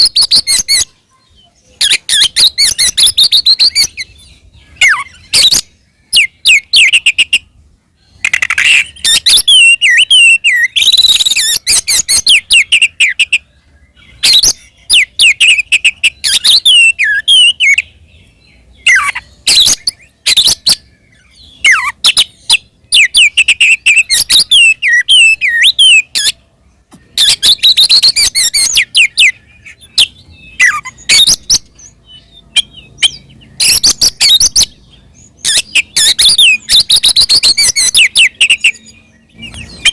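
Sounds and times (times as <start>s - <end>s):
bird singing varied whistles: 1.8s - 7.5s, 8.2s - 13.4s, 14.1s - 17.9s, 18.8s - 26.4s, 27.1s - 39.9s.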